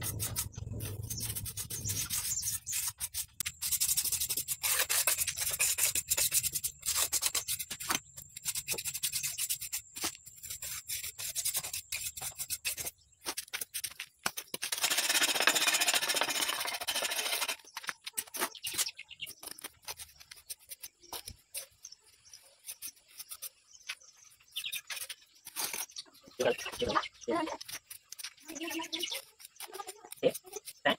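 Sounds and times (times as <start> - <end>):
trowel scraping wet cement: 0.0 - 30.9.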